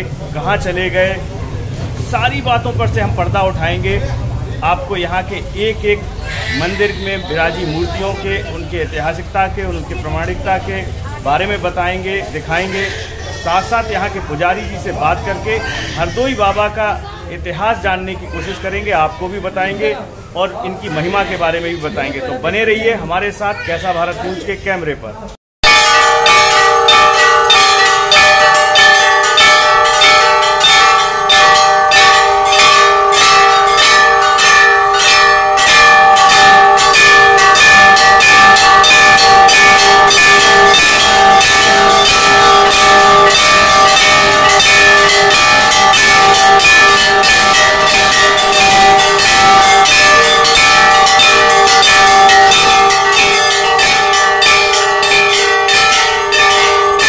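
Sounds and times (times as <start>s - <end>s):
large metal bells clanging: 0.0s - 24.2s, 25.6s - 57.0s.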